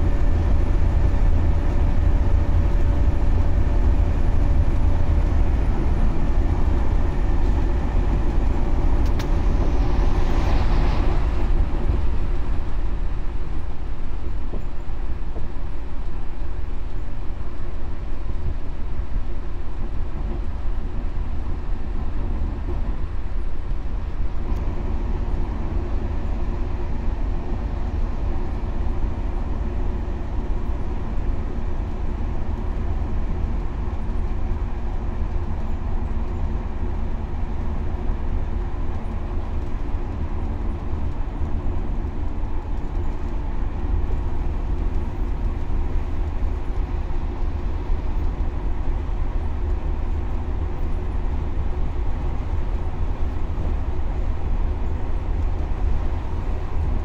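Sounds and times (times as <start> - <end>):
bus rumbling along track: 0.0 - 57.0.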